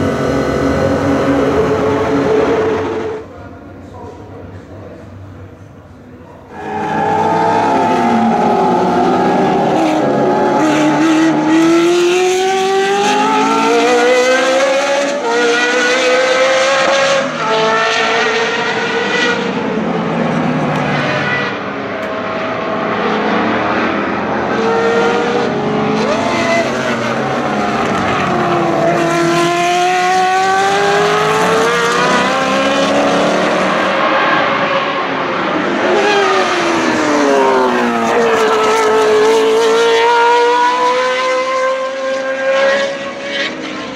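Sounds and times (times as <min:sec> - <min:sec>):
racing engine at high revs: 0:00.0 - 0:03.3, 0:06.5 - 0:43.9.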